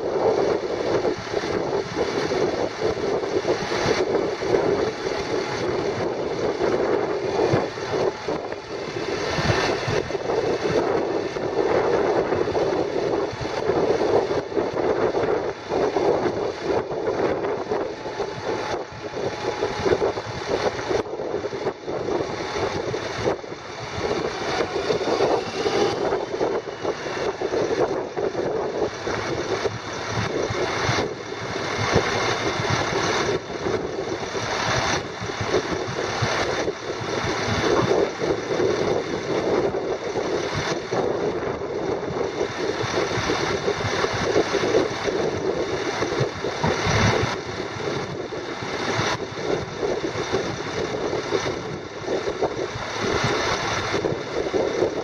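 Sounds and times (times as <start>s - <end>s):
diesel engine idling: 0.0s - 54.4s.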